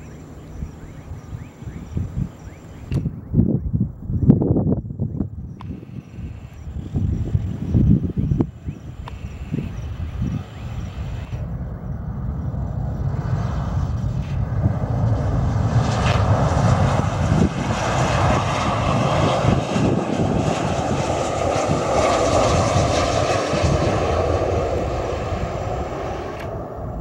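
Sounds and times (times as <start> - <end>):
airplane engines running: 0.0 - 27.0.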